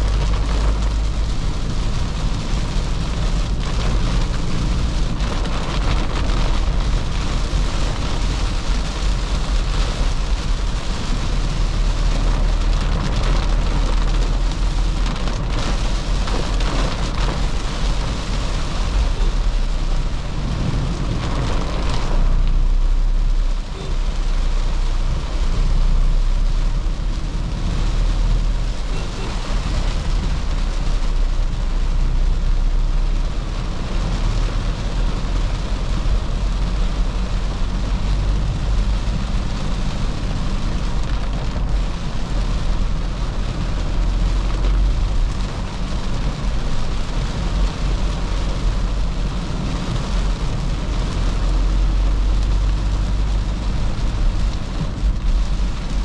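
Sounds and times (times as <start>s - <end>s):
diesel engine low rumble: 0.0s - 56.0s
rain hissing: 0.0s - 56.0s
tyres on wet road: 0.0s - 56.0s.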